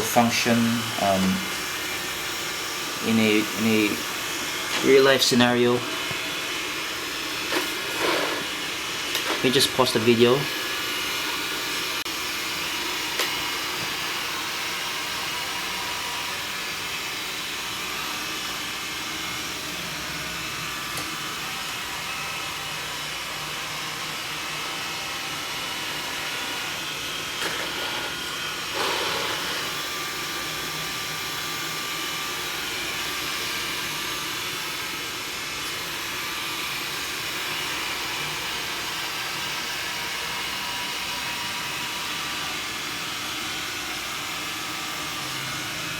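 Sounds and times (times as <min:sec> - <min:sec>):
robot vacuum whirring: 0:00.0 - 0:45.9.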